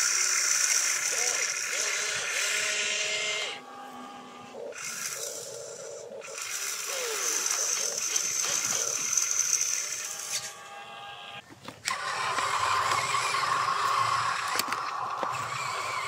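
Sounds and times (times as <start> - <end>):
geared electric motors whirring: 0.0 - 16.0.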